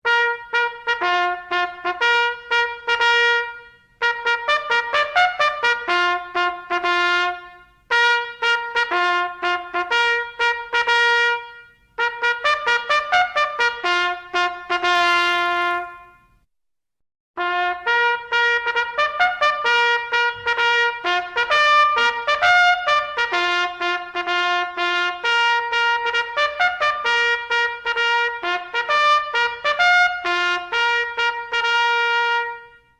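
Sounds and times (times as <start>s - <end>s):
trumpet fanfares: 0.0s - 16.4s, 17.4s - 32.9s.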